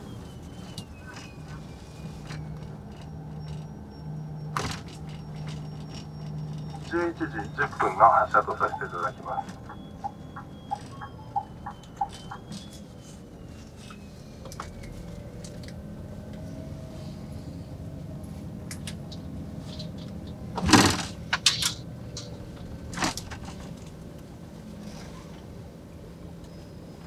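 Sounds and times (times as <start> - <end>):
bus engine rumble: 0.0 - 27.0.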